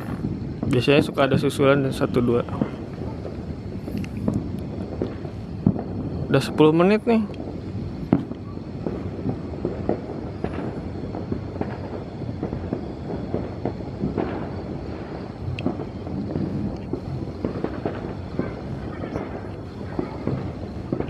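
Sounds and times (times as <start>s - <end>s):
fireworks popping and crackling: 0.0s - 21.0s
low background noise: 0.0s - 21.0s.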